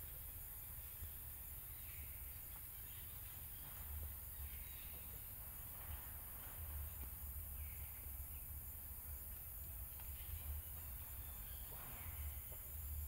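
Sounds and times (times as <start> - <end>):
faint bird chirp: 0.0 - 13.0
steady hiss: 0.0 - 13.0.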